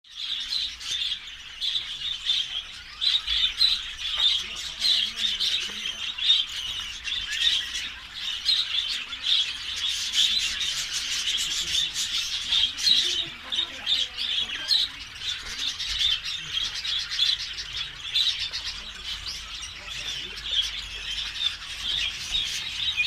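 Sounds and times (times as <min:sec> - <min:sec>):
lovebirds chattering and squawking: 0:00.1 - 0:23.0.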